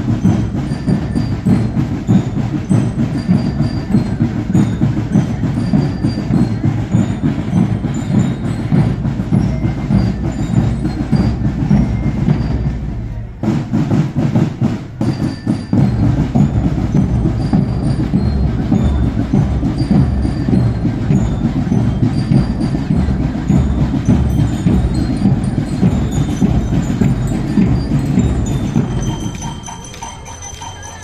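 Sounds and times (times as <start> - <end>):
glockenspiel melody: 0.0 - 13.5, 14.2 - 31.0
marching drums: 0.0 - 31.0.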